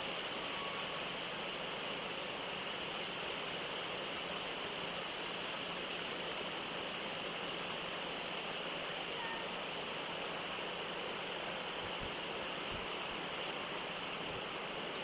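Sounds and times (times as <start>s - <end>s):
microphone background hiss: 0.0s - 15.0s.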